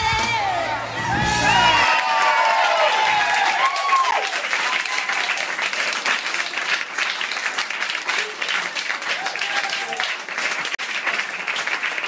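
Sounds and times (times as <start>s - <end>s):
audience applauding: 1.4s - 12.0s.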